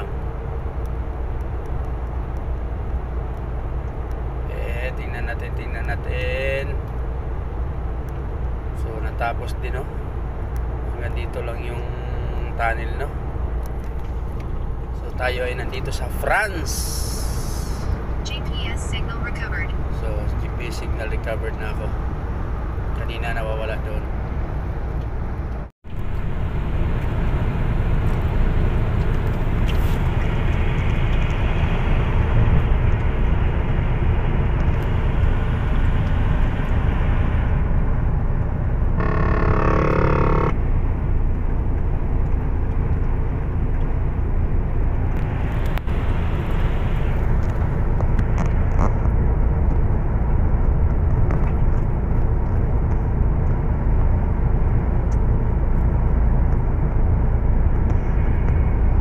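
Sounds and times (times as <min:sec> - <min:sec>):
truck engine and tyres rumbling: 0:00.0 - 0:59.0.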